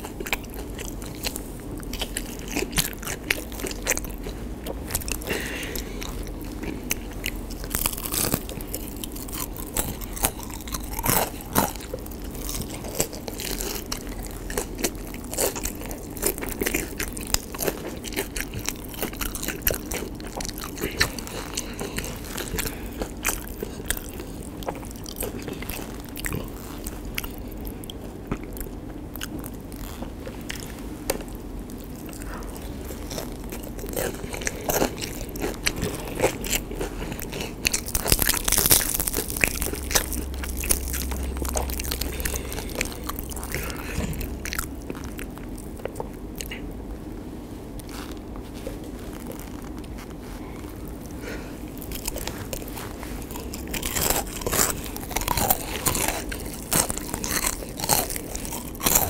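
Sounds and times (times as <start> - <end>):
crunching of fried fritters: 0.0 - 47.0, 47.7 - 59.0.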